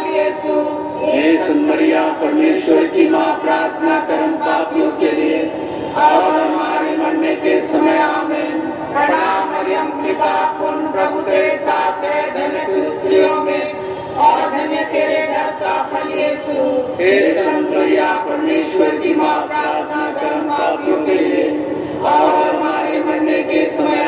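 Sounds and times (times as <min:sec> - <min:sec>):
congregation chanting in unison: 0:00.0 - 0:24.0.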